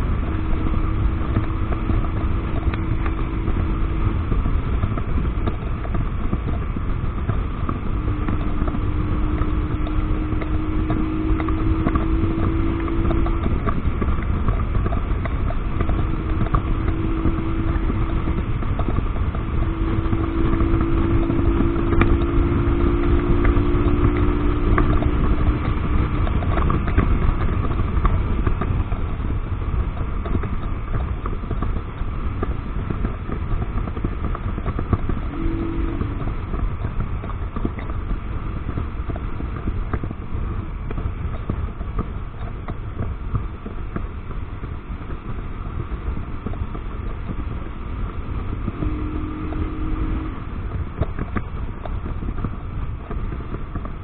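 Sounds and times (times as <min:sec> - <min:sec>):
motorcycle engine hum: 0:00.0 - 0:54.0
wind rushing over microphone: 0:00.0 - 0:54.0.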